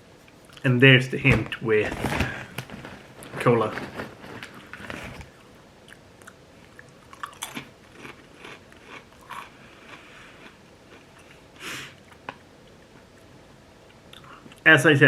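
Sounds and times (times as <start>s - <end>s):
person chewing crisps: 2.0s - 14.6s.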